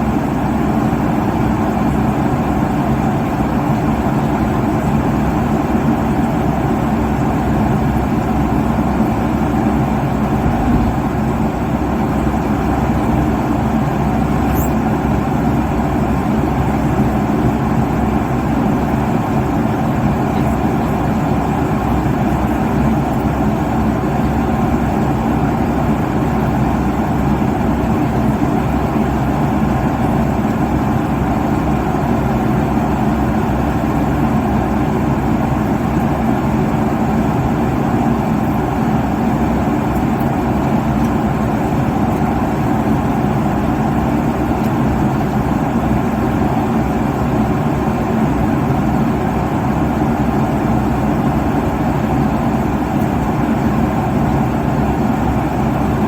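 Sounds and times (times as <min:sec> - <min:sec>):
jet airliner cabin noise: 0:00.0 - 0:56.0.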